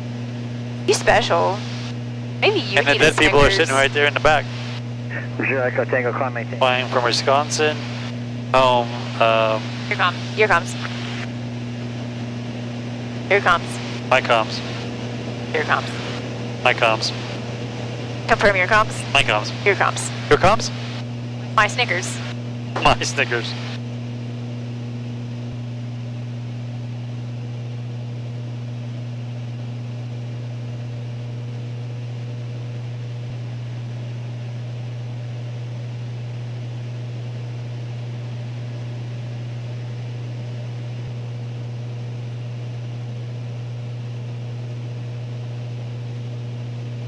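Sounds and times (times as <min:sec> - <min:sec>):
airplane engines droning in cabin: 0:00.0 - 0:47.0.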